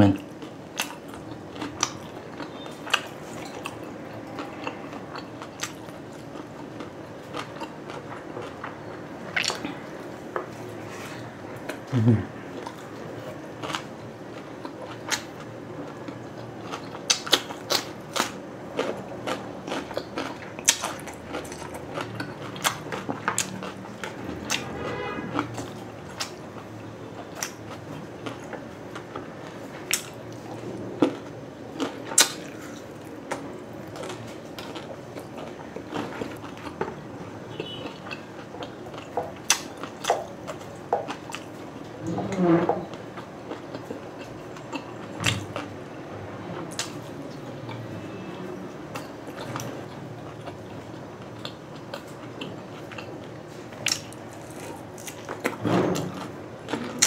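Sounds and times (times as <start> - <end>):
chewing and biting: 0.1 - 41.8, 42.9 - 45.9, 46.7 - 48.0, 48.9 - 57.0.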